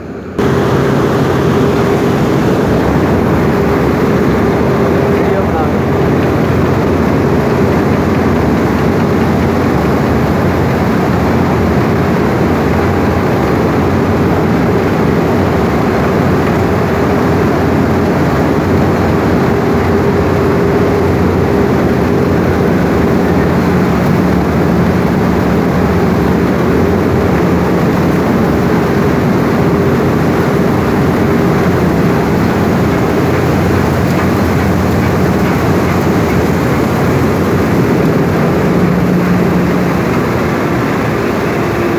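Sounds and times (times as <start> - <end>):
mill machinery drone: 0.0 - 41.9.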